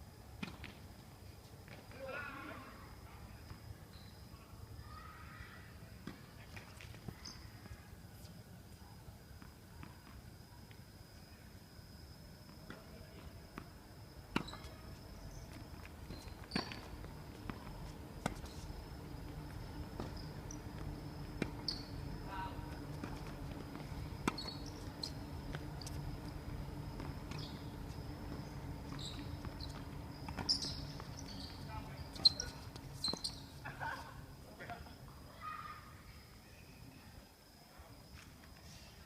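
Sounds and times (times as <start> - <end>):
faint steady high tone: 2.0 - 39.0.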